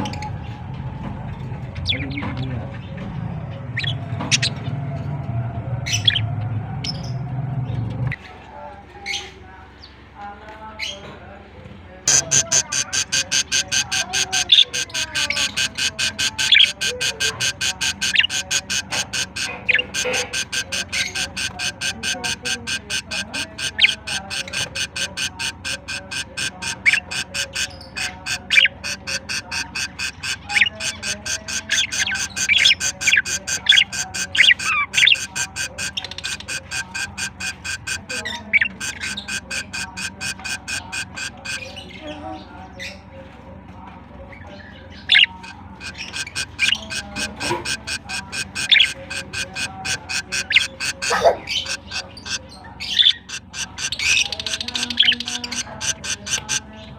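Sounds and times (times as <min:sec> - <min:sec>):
budgies chirping: 0:00.0 - 0:08.2, 0:12.1 - 0:56.9.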